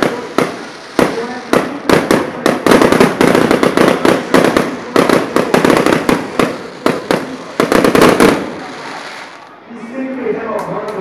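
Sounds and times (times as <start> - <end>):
fireworks bangs and crackles: 0.0 - 9.6.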